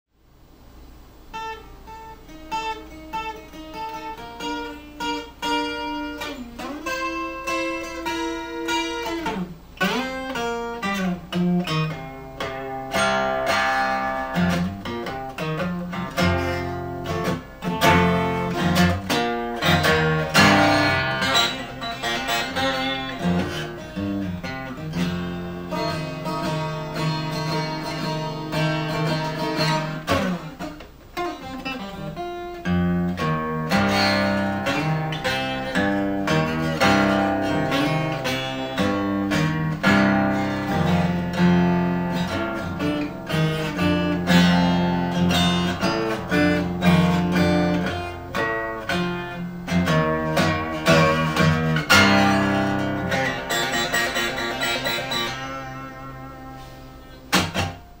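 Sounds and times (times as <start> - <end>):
twelve-string acoustic guitar: 1.0 - 58.0.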